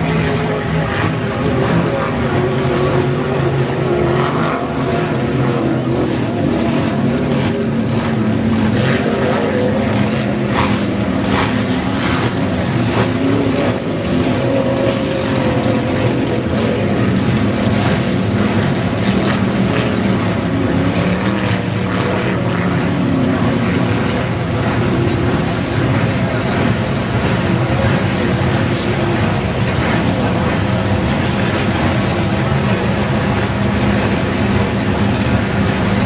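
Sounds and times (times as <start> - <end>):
racing boat engines droning: 0.0 - 36.0.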